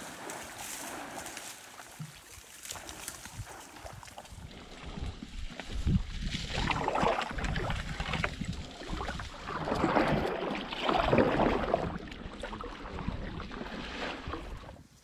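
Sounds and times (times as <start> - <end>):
canoe paddles splashing in water: 0.0 - 15.0
wind rumble on microphone: 2.8 - 14.9.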